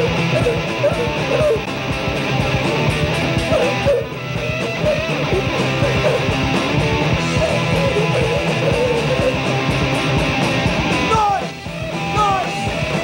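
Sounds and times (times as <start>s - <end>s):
punk rock band playing: 0.0s - 13.0s.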